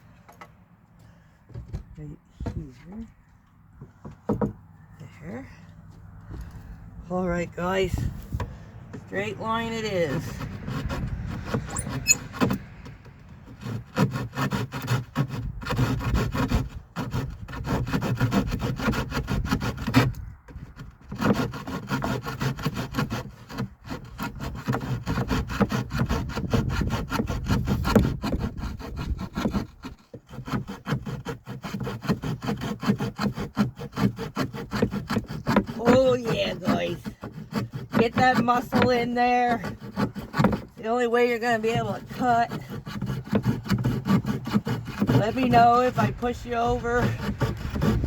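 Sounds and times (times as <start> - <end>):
handsaw cutting wood: 5.3 - 48.0.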